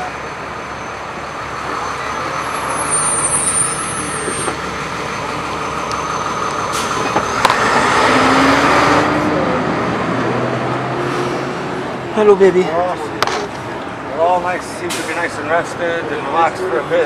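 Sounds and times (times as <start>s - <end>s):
truck engine running: 0.0s - 15.7s.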